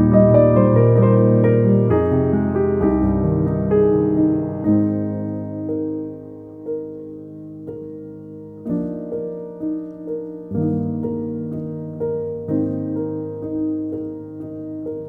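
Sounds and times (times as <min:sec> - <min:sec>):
calm piano music: 0:00.0 - 0:15.0.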